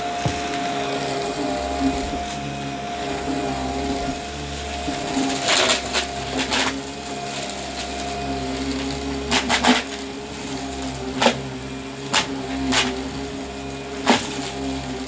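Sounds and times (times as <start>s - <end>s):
debris crackling in vacuum: 0.0s - 15.0s
vacuum cleaner motor hum: 0.0s - 15.0s.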